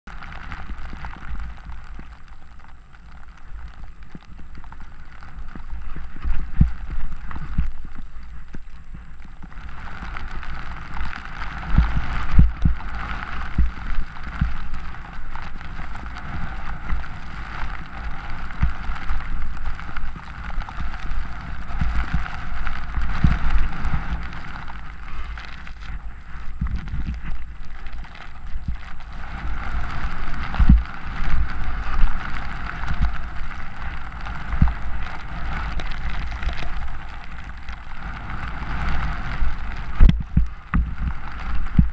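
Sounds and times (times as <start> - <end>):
skis sliding over snow: 0.1 - 41.9
wind buffeting microphone: 5.4 - 41.9.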